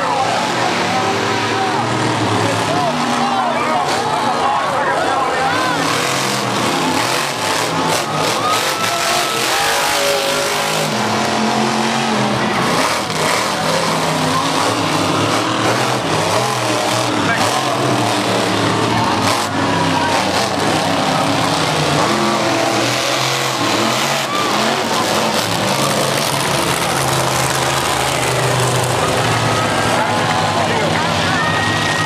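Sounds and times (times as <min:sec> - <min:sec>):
truck engine revving hard: 0:00.0 - 0:32.0.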